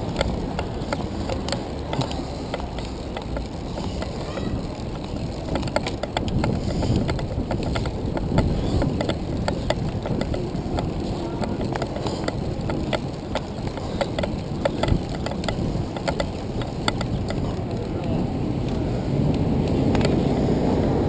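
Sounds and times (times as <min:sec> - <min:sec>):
bike clicks and rattles: 0:00.0 - 0:21.0
road rumble: 0:00.0 - 0:21.0
wind buffeting microphone: 0:00.0 - 0:21.0.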